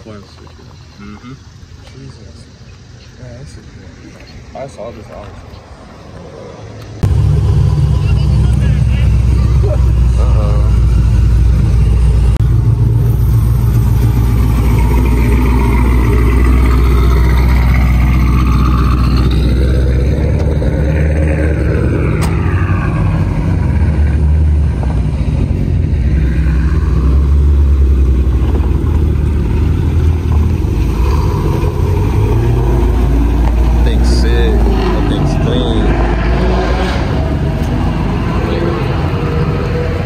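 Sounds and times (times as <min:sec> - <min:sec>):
cars driving past: 0:00.0 - 0:40.0
loud car engine revving: 0:07.0 - 0:40.0.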